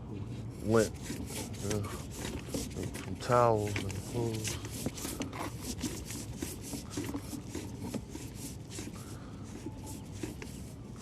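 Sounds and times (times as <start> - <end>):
cable scraping and clicking in pipe: 0.6 - 11.0.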